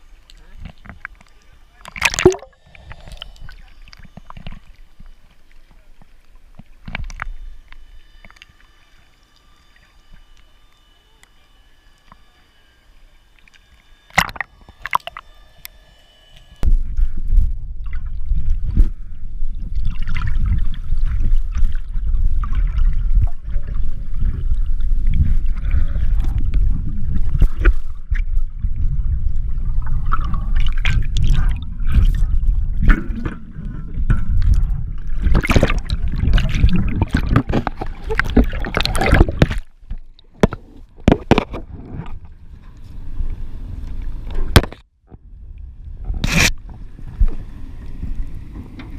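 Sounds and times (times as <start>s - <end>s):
water gurgling and sloshing: 0.0s - 48.9s.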